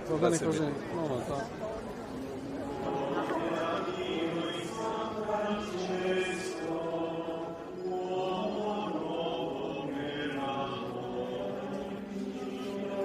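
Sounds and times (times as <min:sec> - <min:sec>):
crowd singing slow chant: 0:02.3 - 0:13.0.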